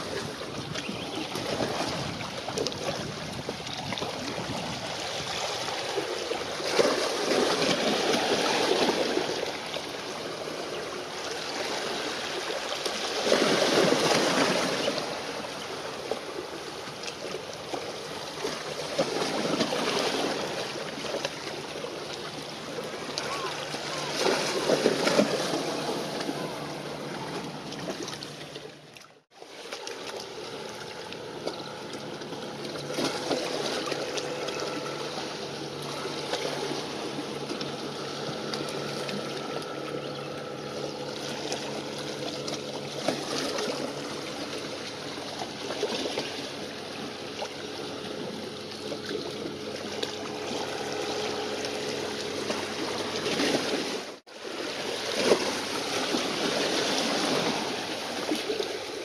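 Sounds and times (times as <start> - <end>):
ship engines humming: 0.0 - 59.0
small waves splashing: 0.0 - 59.0.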